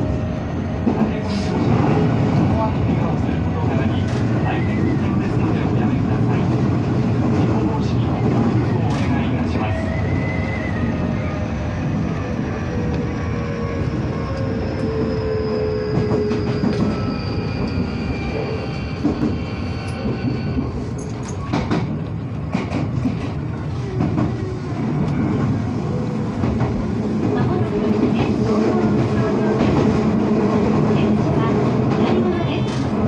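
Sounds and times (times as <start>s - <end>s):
electric train rumble and whine: 0.0s - 33.0s.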